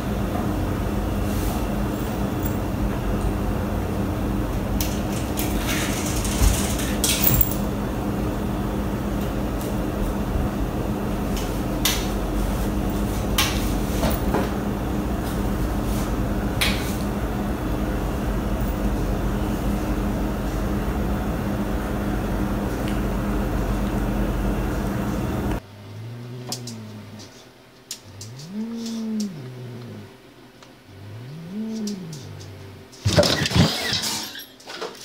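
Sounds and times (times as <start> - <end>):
steady hum with noise: 0.0 - 34.5.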